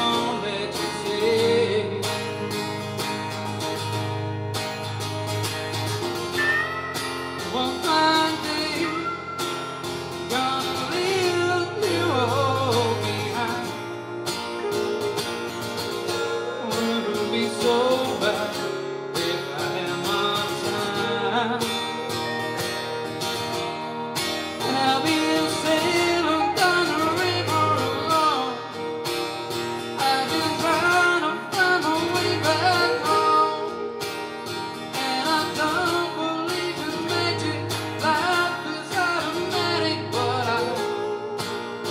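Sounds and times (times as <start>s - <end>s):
man singing: 0.0s - 2.6s, 6.5s - 22.1s, 24.6s - 28.8s, 29.9s - 34.1s, 34.9s - 41.9s
acoustic guitar: 0.0s - 41.9s
electric guitar: 0.0s - 41.9s.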